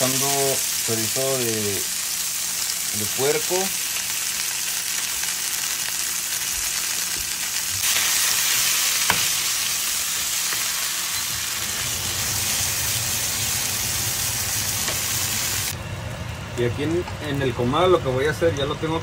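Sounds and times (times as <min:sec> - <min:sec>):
sausage sizzling in a frying pan: 0:00.0 - 0:15.8.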